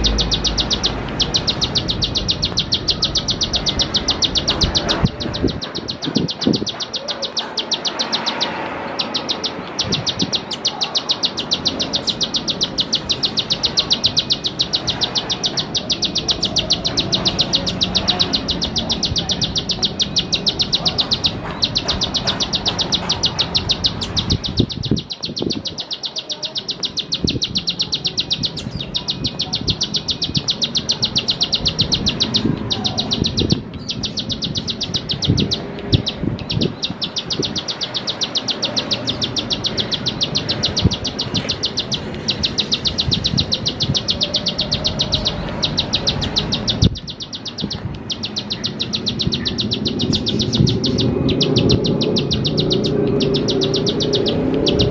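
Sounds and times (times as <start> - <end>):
bird singing high sharp ticks: 0.0 - 54.9.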